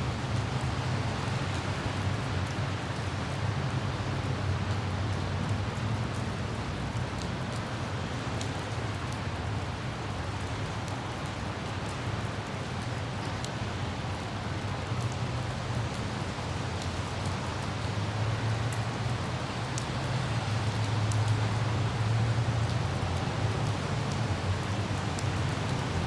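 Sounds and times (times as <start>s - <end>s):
light rain: 0.0s - 26.0s.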